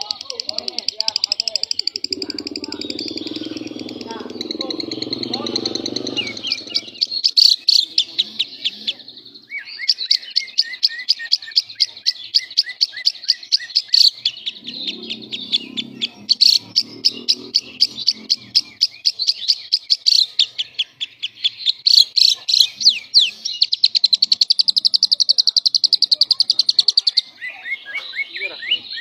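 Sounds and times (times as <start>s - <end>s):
lovebird chattering chirps: 0.0s - 29.0s.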